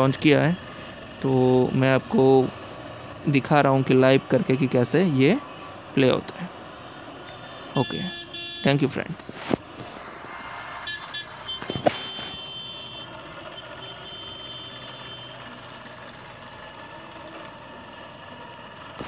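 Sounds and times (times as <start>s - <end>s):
hum of street traffic: 0.0s - 19.0s.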